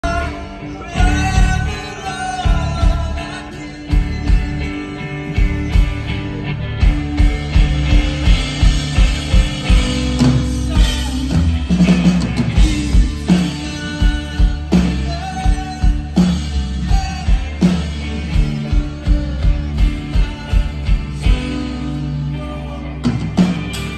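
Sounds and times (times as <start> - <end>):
bass guitar: 0.0 - 23.9
drums: 0.0 - 23.9
electric guitar: 0.0 - 23.9.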